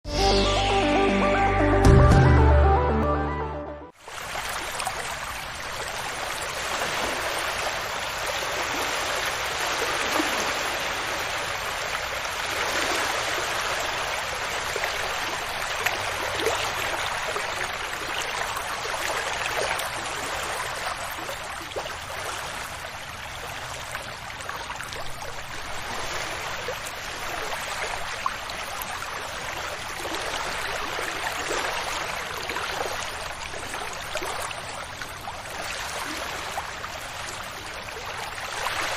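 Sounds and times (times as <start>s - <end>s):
waves washing onto beach: 4.0s - 38.9s.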